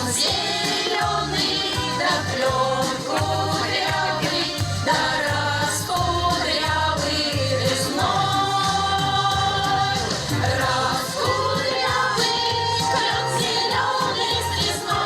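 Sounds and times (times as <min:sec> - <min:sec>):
folk ensemble singing in chorus: 0:00.0 - 0:15.0
instrumental accompaniment with bass: 0:00.0 - 0:15.0.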